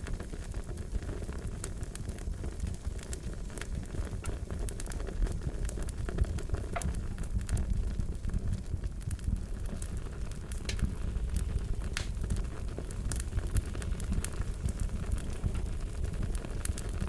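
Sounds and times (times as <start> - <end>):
fire crackling: 0.0 - 17.0
steady low rumble: 2.9 - 17.0.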